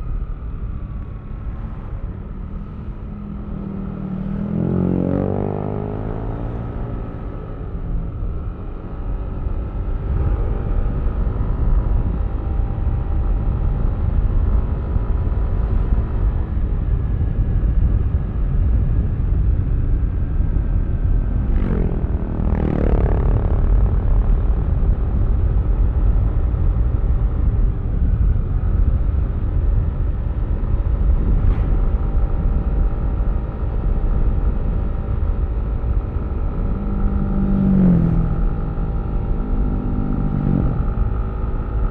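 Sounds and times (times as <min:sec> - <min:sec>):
wind and road rumble: 0:00.0 - 0:41.9.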